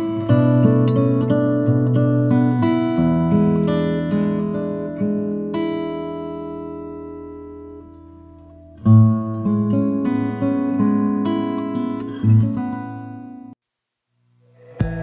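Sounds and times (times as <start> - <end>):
acoustic guitar picking and strumming: 0.0 - 13.6.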